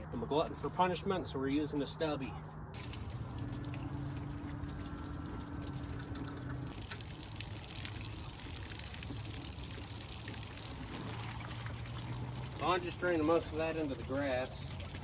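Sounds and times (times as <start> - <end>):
liquid draining in a steady pour: 2.8 - 15.0.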